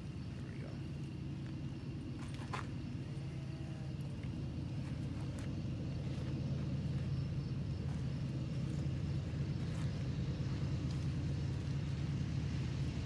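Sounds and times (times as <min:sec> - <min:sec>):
diesel train rumbling: 0:00.0 - 0:13.0.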